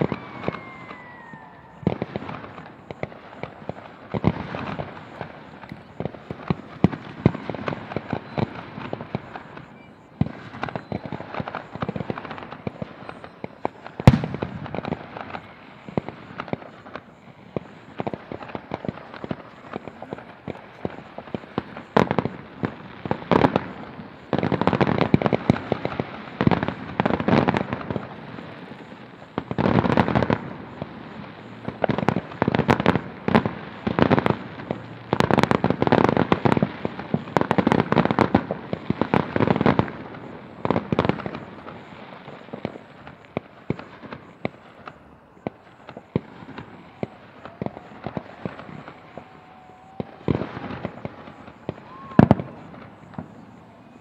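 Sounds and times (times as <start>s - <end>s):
fireworks exploding: 0.0s - 54.0s.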